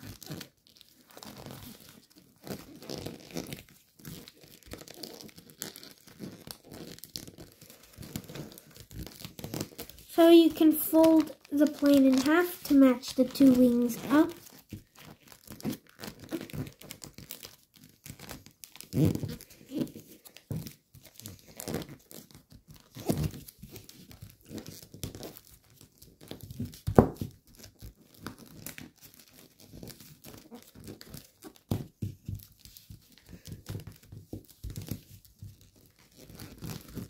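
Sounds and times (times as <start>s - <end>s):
foil paper crinkling: 0.0s - 37.0s.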